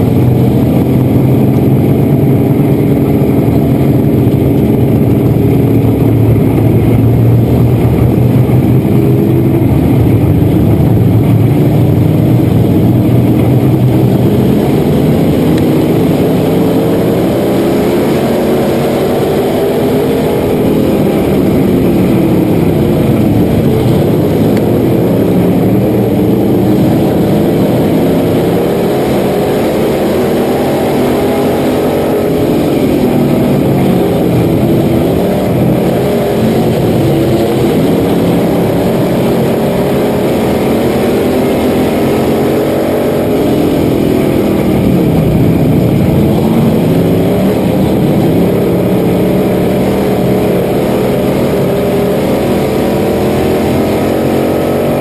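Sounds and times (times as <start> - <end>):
other race car engines: 0.0 - 55.0
race car engine revving: 0.0 - 55.0.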